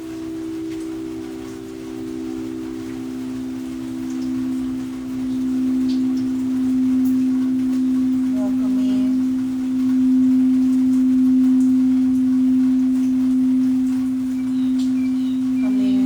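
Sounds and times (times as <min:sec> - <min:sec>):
singing bowl low tone: 0:00.0 - 0:16.0.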